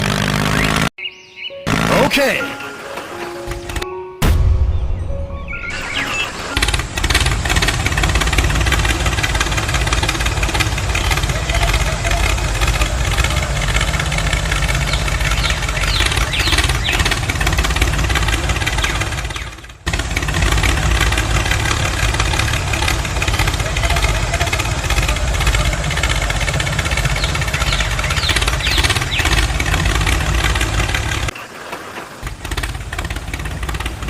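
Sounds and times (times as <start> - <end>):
tractor engine running: 0.0 - 1.0, 1.7 - 4.1, 5.6 - 34.0.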